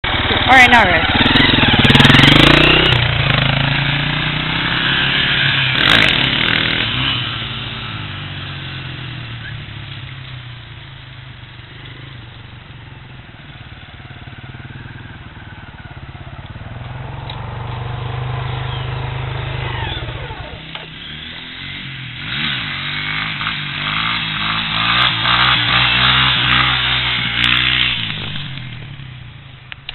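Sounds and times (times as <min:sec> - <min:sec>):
dirt bike engine revving: 0:00.0 - 0:09.7, 0:13.7 - 0:29.2.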